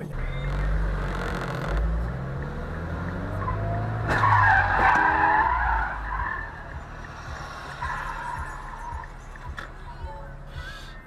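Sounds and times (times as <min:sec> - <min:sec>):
tyres squealing: 0:00.0 - 0:11.0
car engine revving hard: 0:00.2 - 0:09.3.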